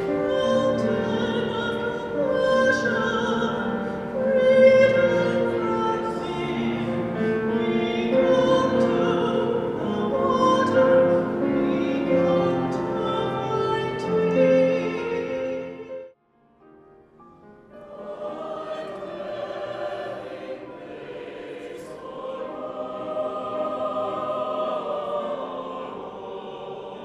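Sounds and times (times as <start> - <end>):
choir singing: 0.0 - 16.2, 17.7 - 27.0.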